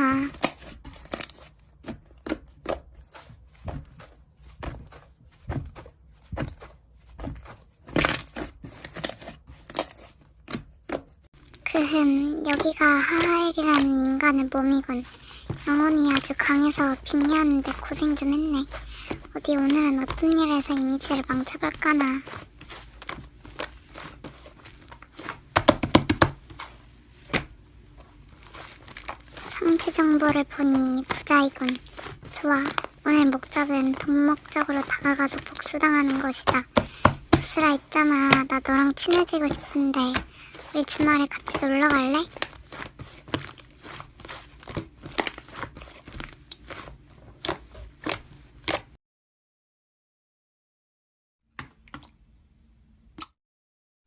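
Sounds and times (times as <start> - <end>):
slime squishing: 0.0 - 49.0.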